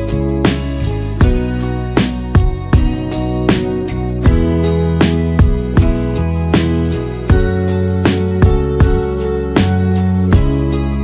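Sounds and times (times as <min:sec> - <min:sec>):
instrumental music with plucked guitar: 0:00.0 - 0:11.0.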